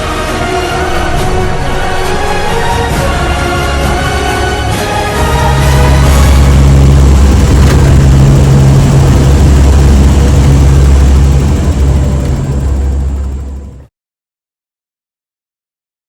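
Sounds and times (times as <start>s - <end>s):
propeller aircraft engines droning: 0.0s - 13.9s.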